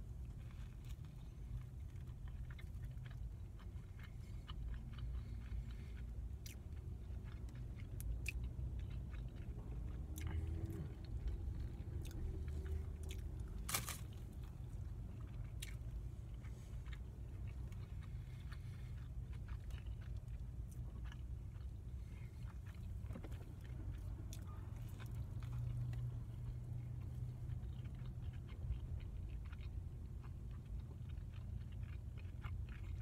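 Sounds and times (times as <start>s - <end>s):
low steady hum: 0.0s - 33.0s
person chewing food: 0.0s - 33.0s.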